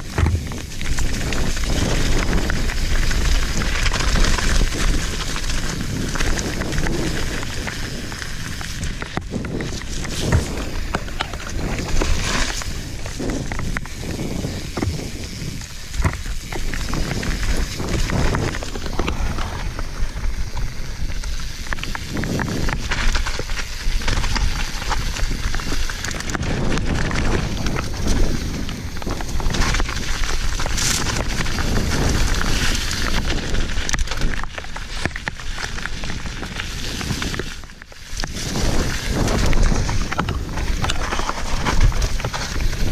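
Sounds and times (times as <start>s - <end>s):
bike rattling and knocking: 0.0s - 42.9s
tyres crunching on loose stones: 0.0s - 42.9s
wind rushing over microphone: 0.0s - 42.9s.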